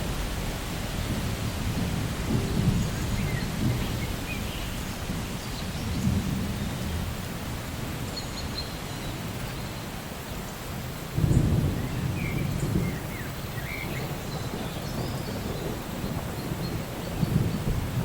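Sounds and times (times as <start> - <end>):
rolling thunder: 0.0 - 7.9, 11.1 - 18.0
steady rain: 0.0 - 18.0.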